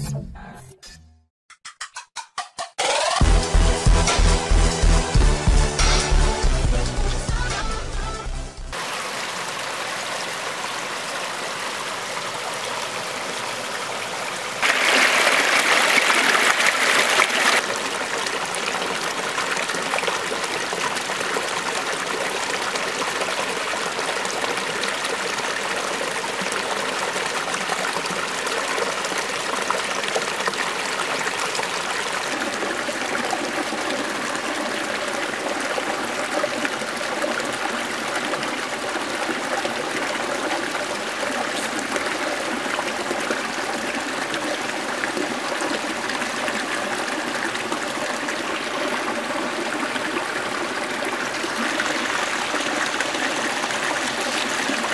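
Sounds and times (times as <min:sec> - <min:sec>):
stream splashing over stones: 0:08.7 - 0:54.9.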